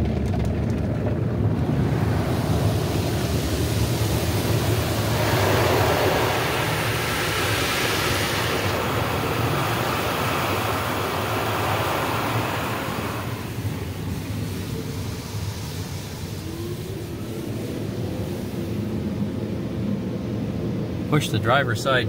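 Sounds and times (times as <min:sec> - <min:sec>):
water jets spraying over car: 0:00.0 - 0:20.0
low rumble: 0:00.0 - 0:22.0.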